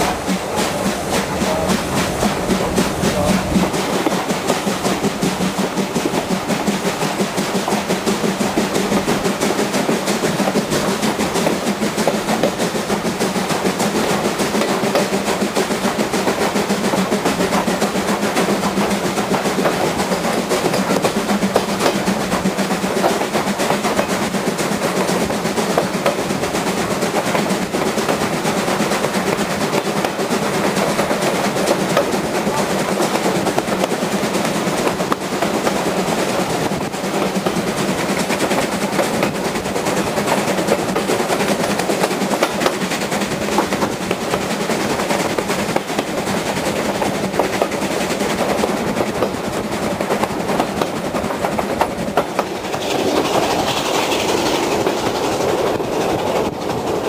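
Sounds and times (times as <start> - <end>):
train clattering: 0.0 - 57.0.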